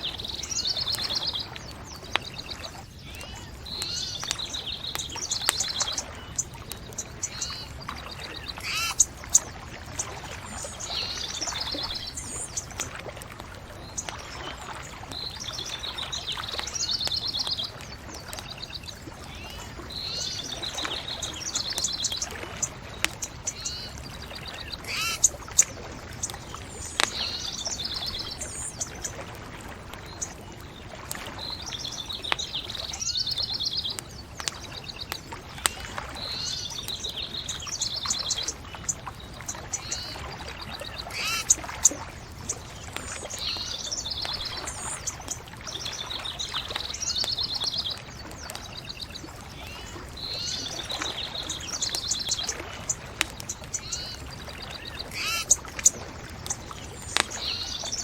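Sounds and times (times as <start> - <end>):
songbirds singing: 0.0 - 58.0
bonfire crackling and popping: 0.1 - 58.0.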